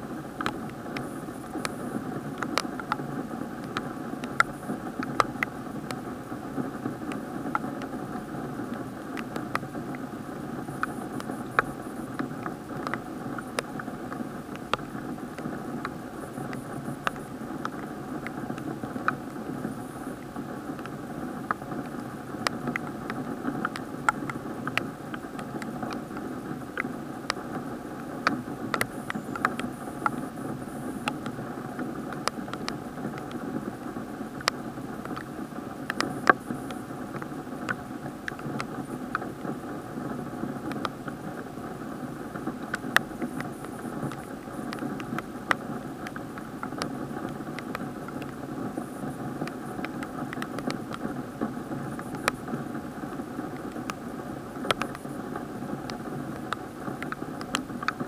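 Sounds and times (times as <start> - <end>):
muffled rush of rain and wind: 0.0 - 58.0
raindrops ticking on plastic: 0.0 - 58.0.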